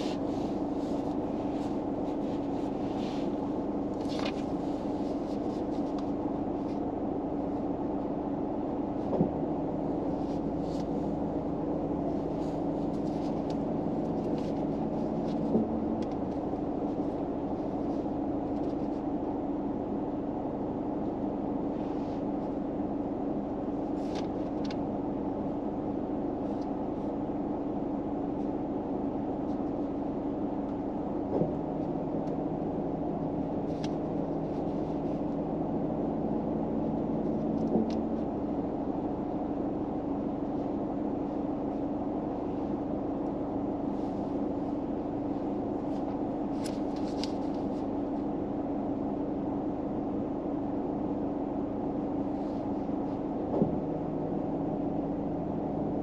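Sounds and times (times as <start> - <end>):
car interior drone: 0.0 - 56.0.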